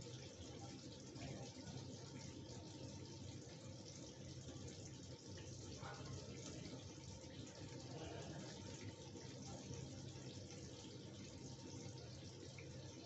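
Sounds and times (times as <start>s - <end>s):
curry bubbling and sizzling: 0.0s - 13.0s.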